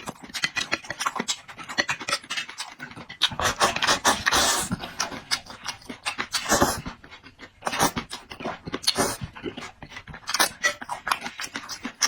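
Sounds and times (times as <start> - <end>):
wet eating smacking and clicking: 0.0 - 12.0.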